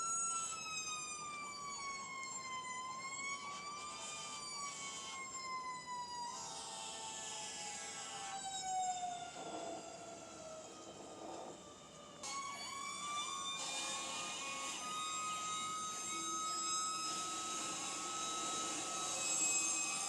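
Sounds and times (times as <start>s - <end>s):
fire truck siren: 0.0s - 20.0s.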